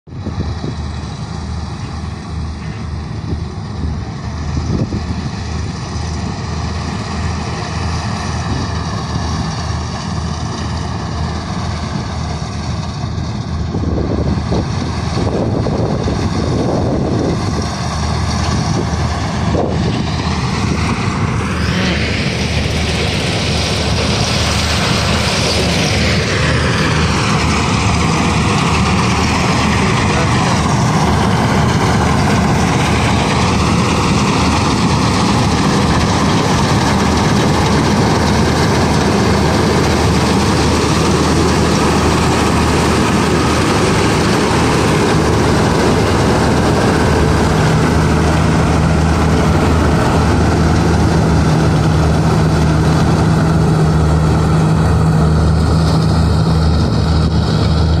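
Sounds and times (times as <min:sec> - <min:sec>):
combine harvester running: 0:00.1 - 0:58.0.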